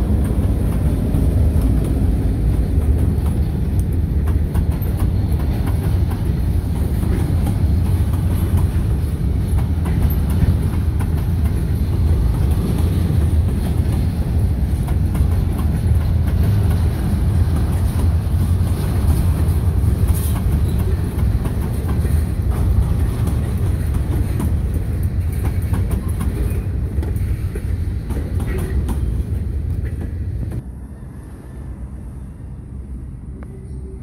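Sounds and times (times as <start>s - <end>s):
freight car wheels rumbling: 0.0s - 30.7s.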